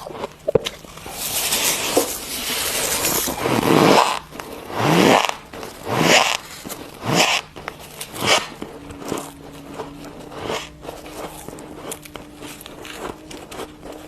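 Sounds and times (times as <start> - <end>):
frost being chewed crunching: 0.0 - 14.0.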